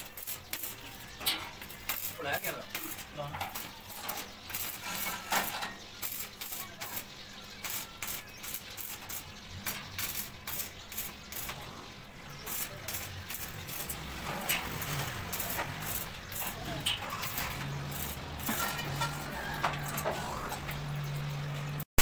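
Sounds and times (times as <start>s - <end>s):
arc welding crackle and hiss: 0.0s - 21.0s.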